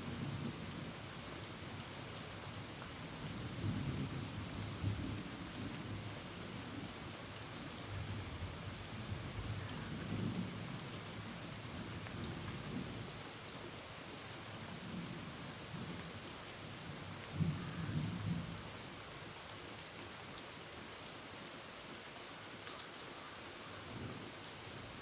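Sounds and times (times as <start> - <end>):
heavy rain on a tin roof: 0.0 - 25.0.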